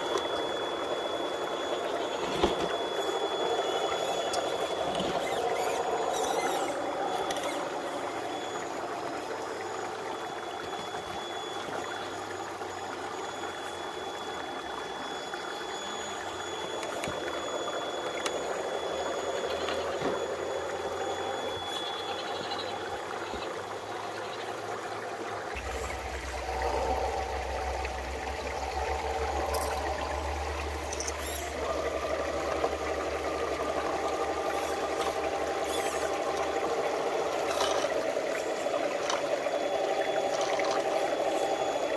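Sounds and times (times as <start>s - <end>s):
electric motors whining: 0.0s - 41.9s
water trickling over rocks: 0.0s - 41.9s.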